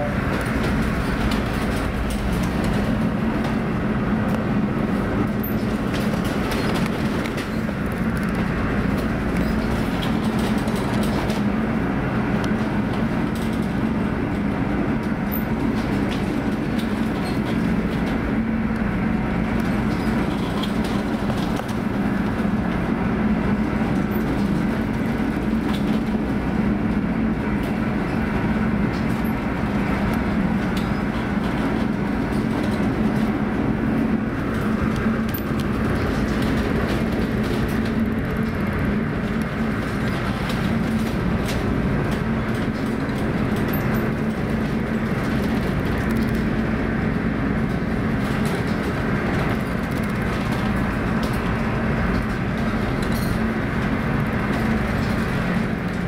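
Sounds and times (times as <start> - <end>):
heavy sea: 0.0 - 56.0
ship engines droning: 0.0 - 56.0.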